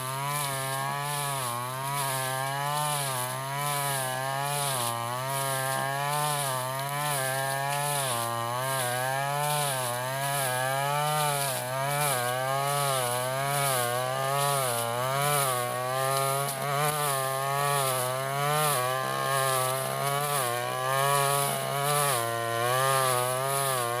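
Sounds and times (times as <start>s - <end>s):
brush cutter engine cutting grass: 0.0s - 24.0s.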